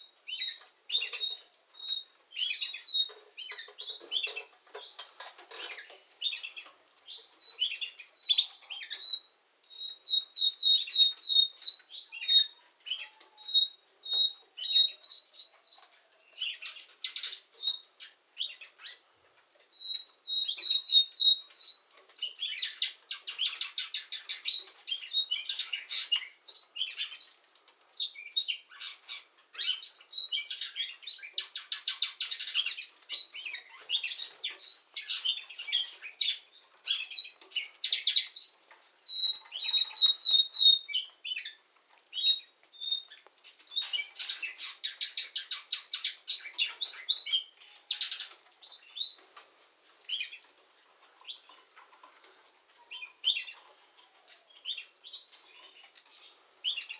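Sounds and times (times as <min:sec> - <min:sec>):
canary singing trills: 0:00.0 - 0:49.4, 0:50.0 - 0:56.9.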